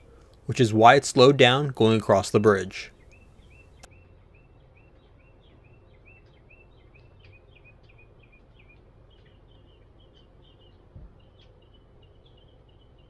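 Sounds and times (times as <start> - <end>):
bird singing repeated notes: 0.0 - 13.0
low background rumble: 0.0 - 13.0.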